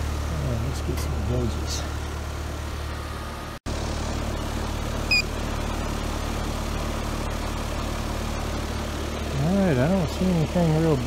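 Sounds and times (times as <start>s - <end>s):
heat pump compressor hum: 0.0s - 11.0s.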